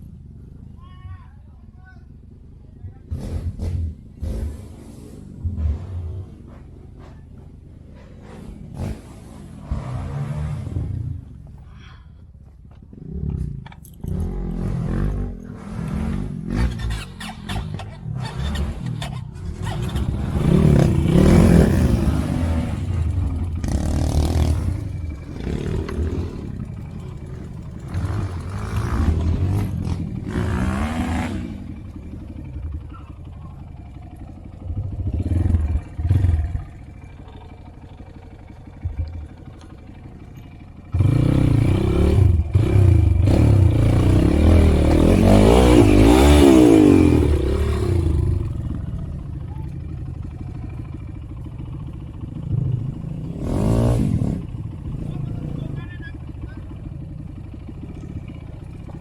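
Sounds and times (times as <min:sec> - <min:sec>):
motorcycle engine revving: 0:02.9 - 0:11.7, 0:12.4 - 0:59.0.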